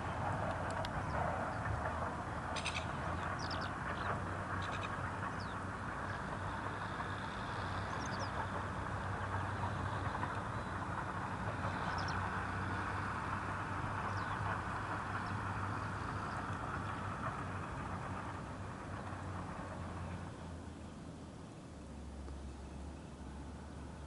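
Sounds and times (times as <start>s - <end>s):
distant jet engine: 0.0s - 24.0s.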